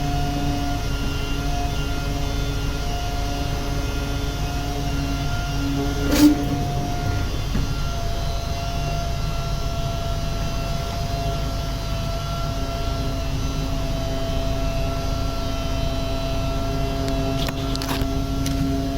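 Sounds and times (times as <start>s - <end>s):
power sander motor droning: 0.0s - 18.9s.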